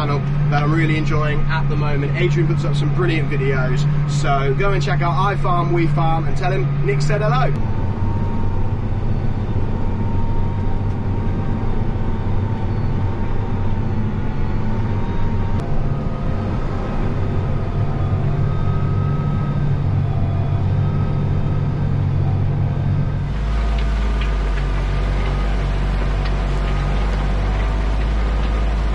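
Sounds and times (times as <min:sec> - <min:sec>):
tractor diesel engine droning: 0:00.0 - 0:28.9.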